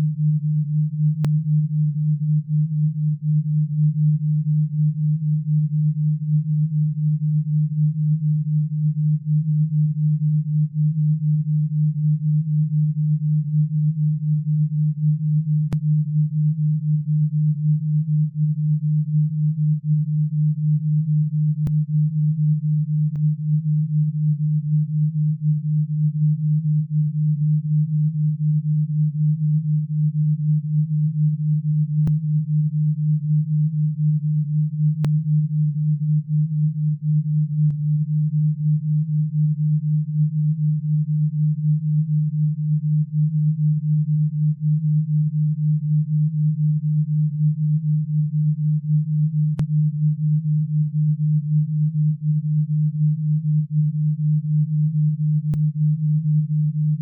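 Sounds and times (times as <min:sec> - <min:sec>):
pulsing low pure tone: 0:00.0 - 0:57.0.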